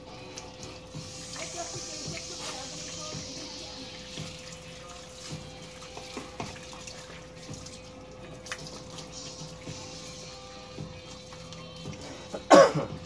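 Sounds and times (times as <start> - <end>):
water running: 0.0 - 13.0
water splashing in basin: 0.4 - 12.0.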